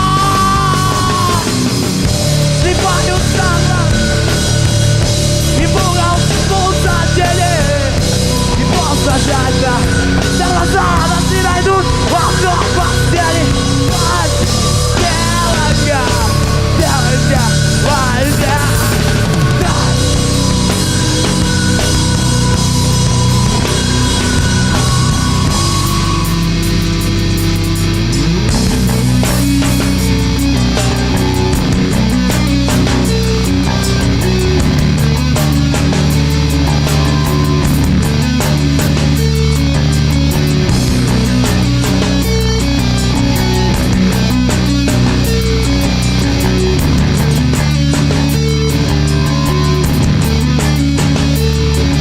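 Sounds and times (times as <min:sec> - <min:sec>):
bass guitar: 0:00.0 - 0:52.0
bending lead guitar line: 0:00.0 - 0:52.0
distorted guitars: 0:00.0 - 0:52.0
drum kit: 0:00.0 - 0:52.0.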